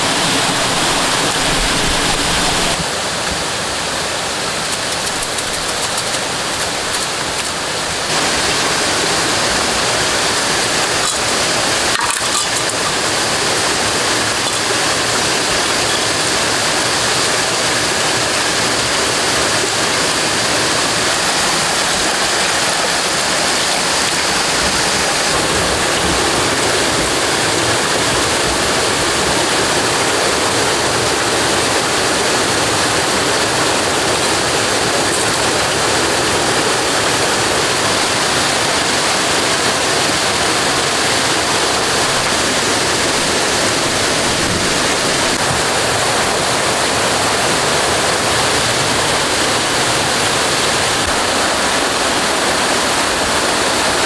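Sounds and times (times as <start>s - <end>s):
rocky stream: 0.0s - 54.0s
waterfall rushing: 0.0s - 54.0s.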